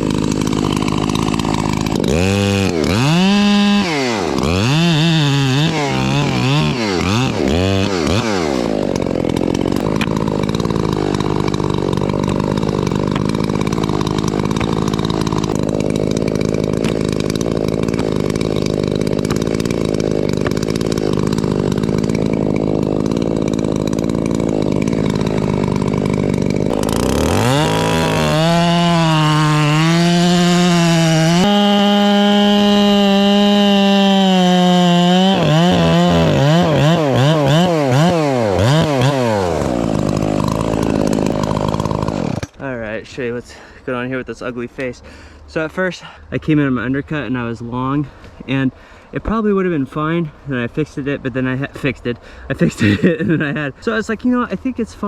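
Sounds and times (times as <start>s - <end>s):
chainsaw cutting wood: 0.0s - 42.6s, 50.8s - 54.8s.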